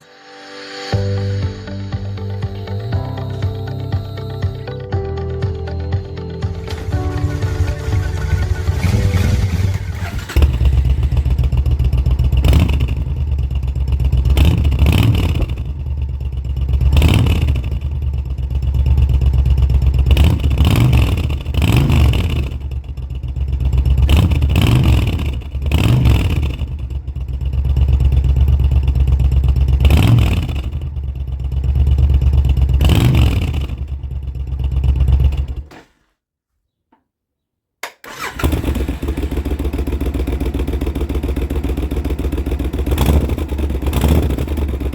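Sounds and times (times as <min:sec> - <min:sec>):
motorcycle engine revving: 0:06.3 - 0:35.9, 0:38.1 - 0:44.9.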